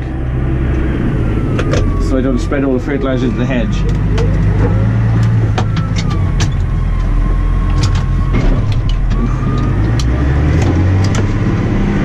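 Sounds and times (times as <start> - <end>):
faint whine: 0.0 - 9.7
tractor diesel engine drone: 0.0 - 12.0.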